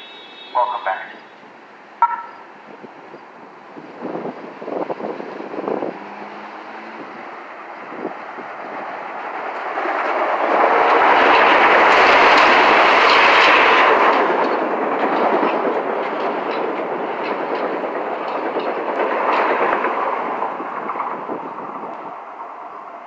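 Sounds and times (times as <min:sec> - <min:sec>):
electric train passing: 0:00.0 - 0:23.0
wheels clicking over rail joints: 0:03.1 - 0:23.0.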